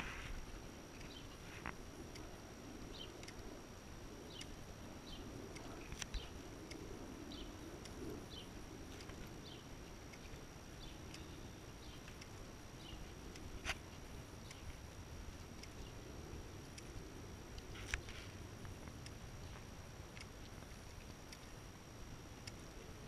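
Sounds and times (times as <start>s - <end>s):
sharp clicks: 4.3s - 23.0s.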